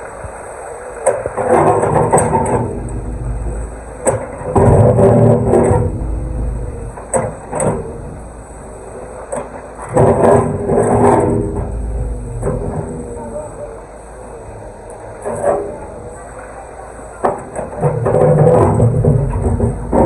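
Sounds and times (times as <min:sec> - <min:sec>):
excavator diesel engine under load: 0:00.0 - 0:20.0.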